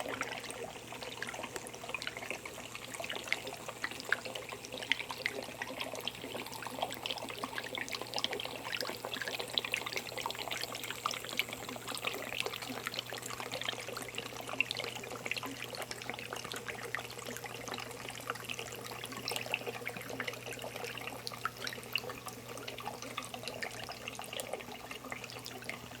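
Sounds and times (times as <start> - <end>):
fountain water trickling and dripping: 0.0 - 26.0.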